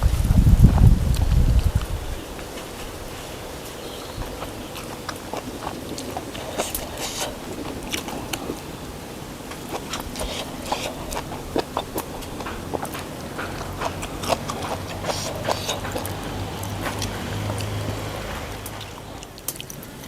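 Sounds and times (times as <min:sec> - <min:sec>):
person chewing crunchy food: 0:00.8 - 0:20.0.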